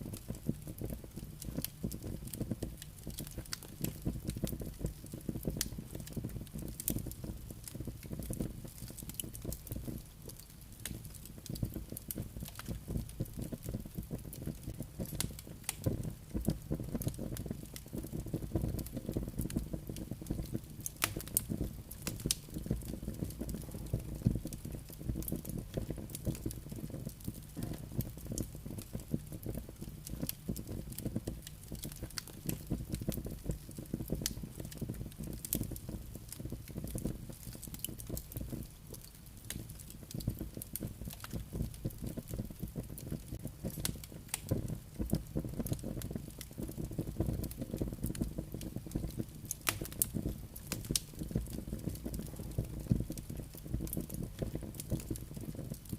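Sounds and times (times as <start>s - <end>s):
campfire crackling and popping: 0.0s - 55.9s
low fire rumble: 0.0s - 55.9s.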